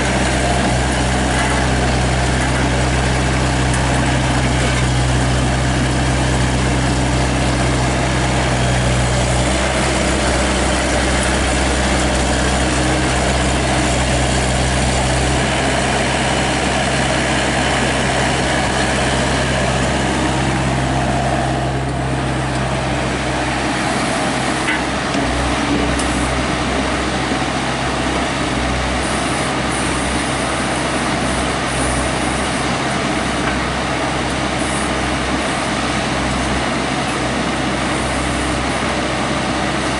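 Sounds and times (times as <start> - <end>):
mini excavator engine running: 0.0 - 39.9.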